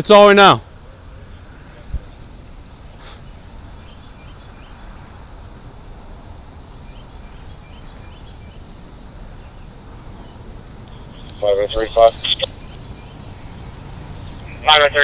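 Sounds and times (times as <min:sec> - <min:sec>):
steady low rumble: 0:00.6 - 0:15.0
bird chirping: 0:00.9 - 0:05.6, 0:06.4 - 0:15.0.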